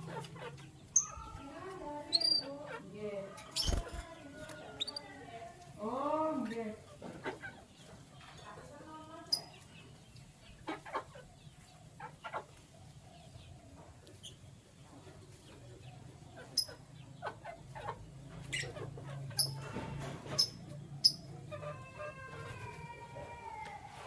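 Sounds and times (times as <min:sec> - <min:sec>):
birds high chirps: 0:00.0 - 0:05.2, 0:06.3 - 0:22.7.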